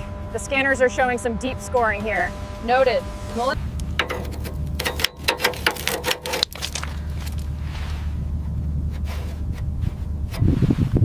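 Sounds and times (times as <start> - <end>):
glove scraping rusty metal: 0.0 - 11.0
low rumble: 0.0 - 11.0
steady low hum: 0.0 - 11.0.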